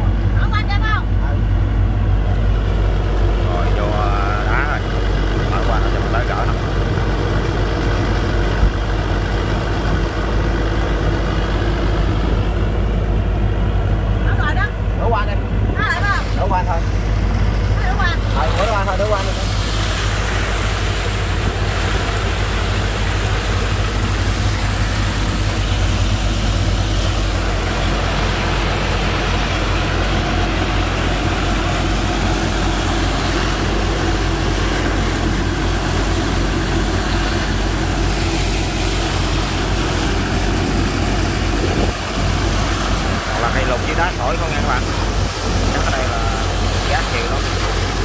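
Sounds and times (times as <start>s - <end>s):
boat engine running under load: 0.0s - 48.0s.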